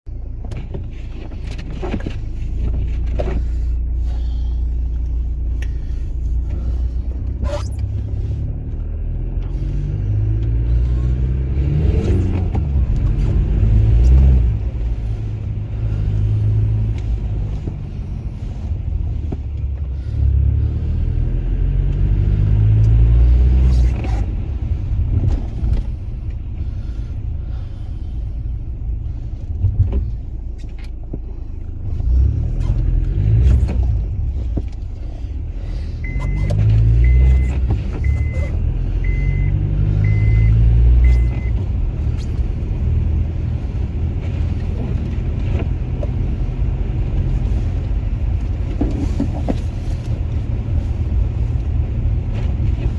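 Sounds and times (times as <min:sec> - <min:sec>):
car driving rumble: 0:00.0 - 0:52.9.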